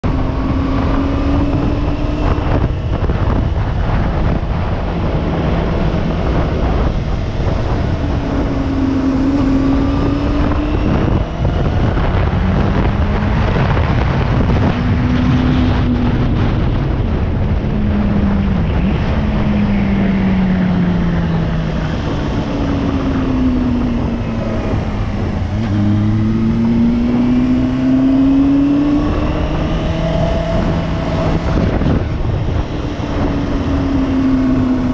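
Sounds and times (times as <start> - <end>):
motorcycle engine accelerating: 0.0 - 34.9
wind rushing: 0.0 - 34.9.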